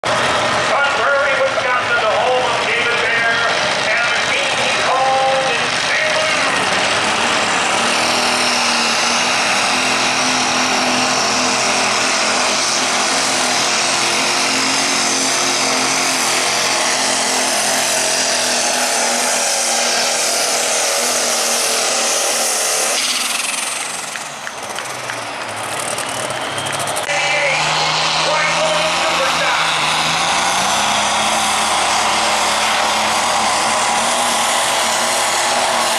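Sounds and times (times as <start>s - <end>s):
diesel engine under full load: 0.0s - 35.9s.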